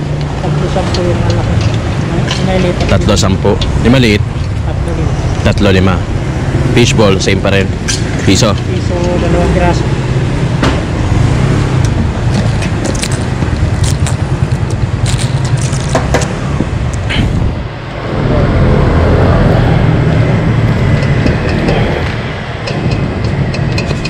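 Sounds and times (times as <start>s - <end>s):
low street rumble: 0.0s - 24.0s.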